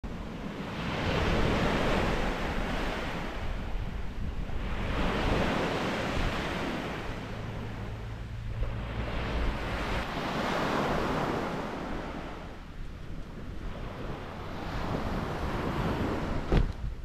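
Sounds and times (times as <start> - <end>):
wind rumbling on microphone: 0.0 - 17.0
sea waves breaking on shore: 0.1 - 17.0.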